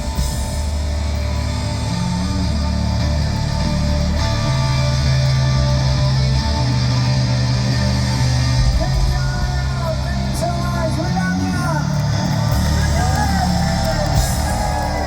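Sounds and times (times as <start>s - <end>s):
bass notes: 0.0s - 15.0s
electric guitar: 0.0s - 15.0s
hard rock band playing: 0.0s - 15.0s.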